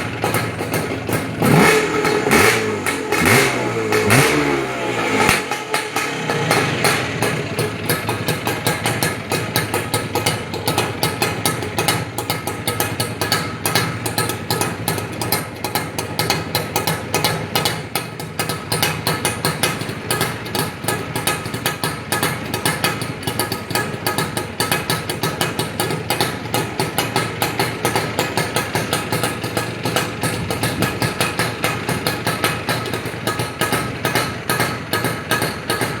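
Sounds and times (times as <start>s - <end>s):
motorcycle engine idling: 0.0s - 36.0s.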